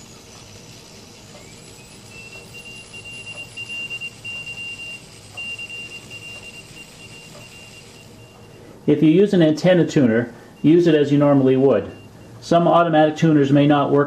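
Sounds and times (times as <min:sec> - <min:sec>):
morse code beeps: 0:00.0 - 0:09.0, 0:10.0 - 0:12.5
radio band hiss: 0:00.0 - 0:14.0.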